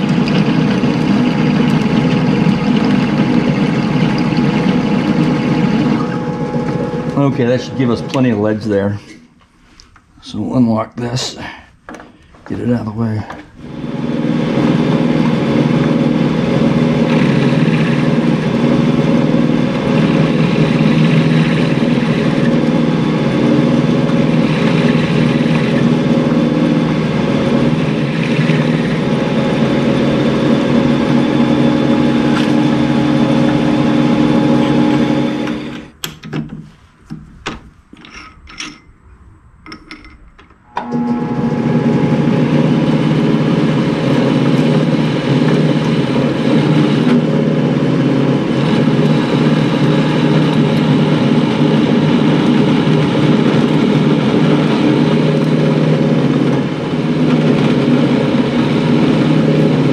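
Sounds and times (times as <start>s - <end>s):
metal lathe running: 0.0s - 9.1s, 11.9s - 36.3s, 39.6s - 59.9s.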